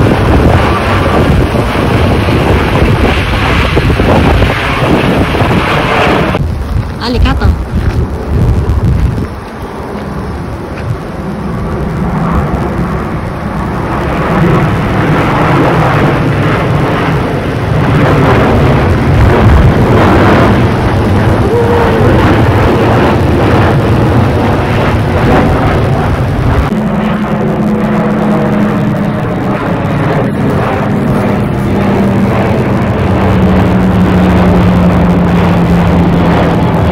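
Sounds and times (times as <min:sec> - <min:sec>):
jet airliner roar overhead: 0:00.0 - 0:36.9.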